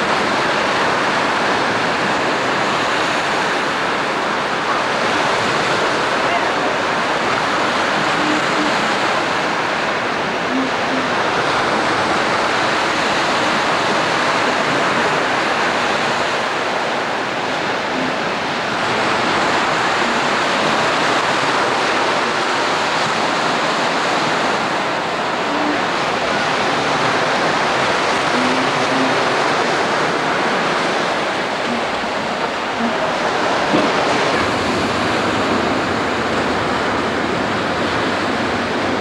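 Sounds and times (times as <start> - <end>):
ocean surf breaking: 0.0 - 39.0.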